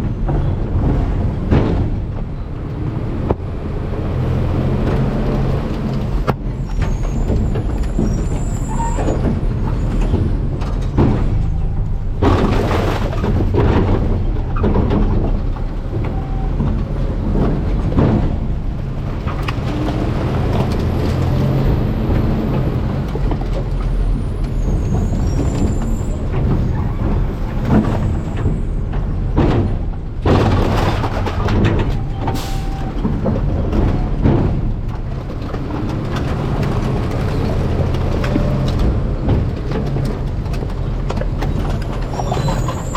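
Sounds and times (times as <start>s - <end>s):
knocks and clanks: 0.0s - 3.5s, 4.2s - 42.9s
garbage truck engine rumble: 0.0s - 42.9s.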